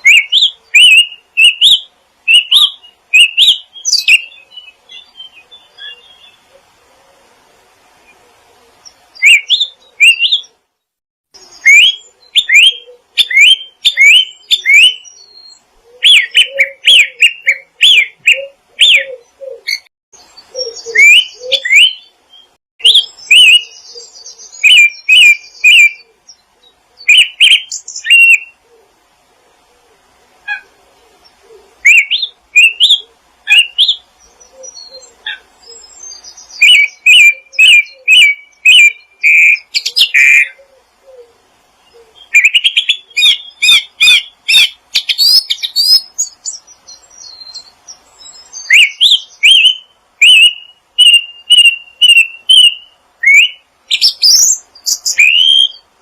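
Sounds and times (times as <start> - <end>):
songbirds chirping and singing: 0.0 - 10.7, 11.4 - 56.0.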